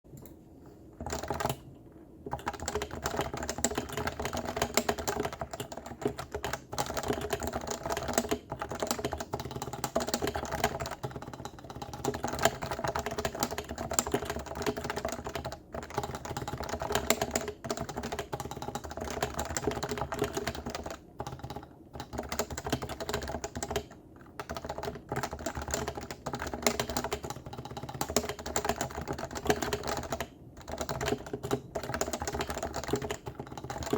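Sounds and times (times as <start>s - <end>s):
fast keyboard typing: 1.0s - 33.9s.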